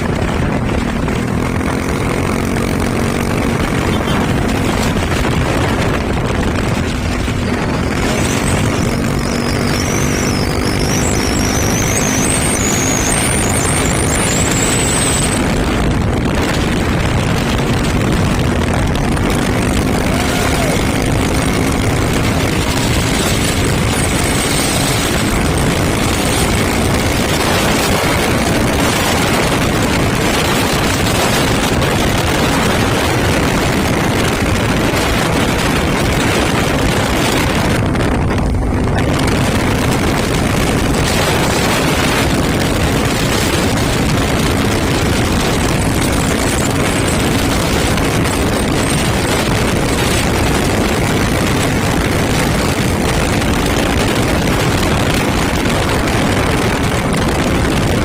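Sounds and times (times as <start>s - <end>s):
truck road and wind noise: 0.0s - 58.0s.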